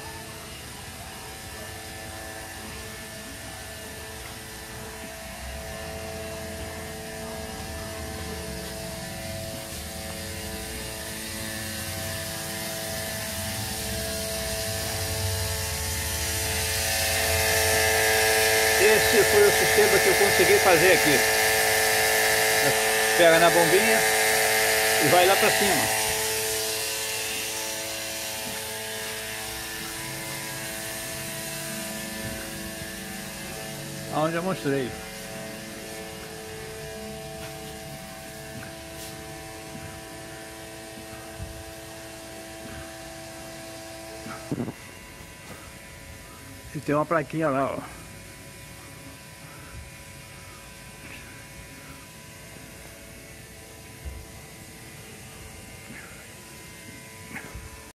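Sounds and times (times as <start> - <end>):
water pump buzzing drone: 0.0 - 57.9.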